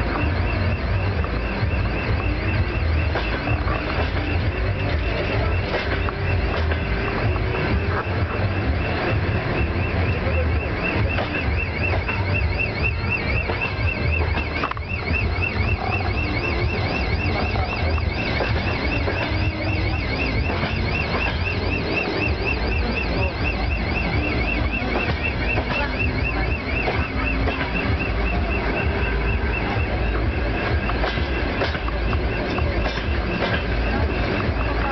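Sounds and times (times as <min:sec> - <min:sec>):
diesel locomotive engines idling: 0:00.0 - 0:34.9
high-pitched warble: 0:00.0 - 0:34.9.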